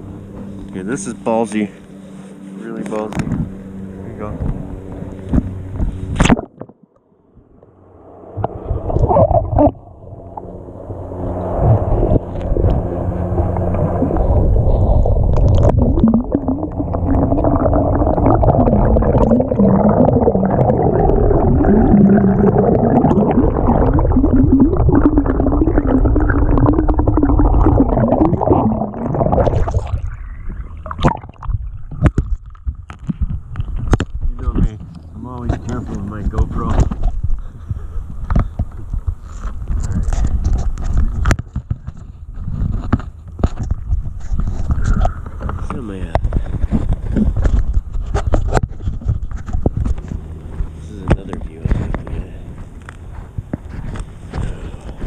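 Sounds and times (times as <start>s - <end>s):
underwater rumbling and gurgling: 2.9s - 55.0s.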